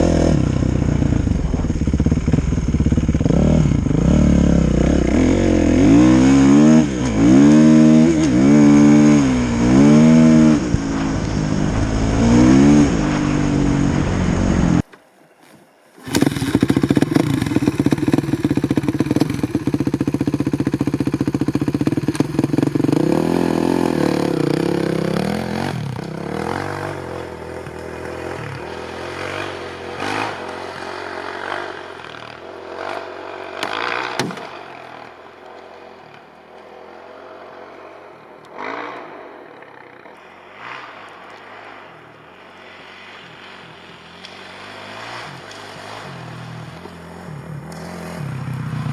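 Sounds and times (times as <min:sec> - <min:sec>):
motorbike engine revving: 0:00.0 - 0:14.9, 0:16.0 - 0:35.3, 0:36.7 - 0:48.9.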